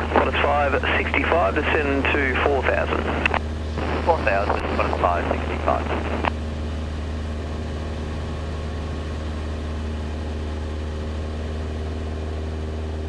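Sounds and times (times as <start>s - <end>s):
airplane engine droning in cabin: 0.0s - 13.0s.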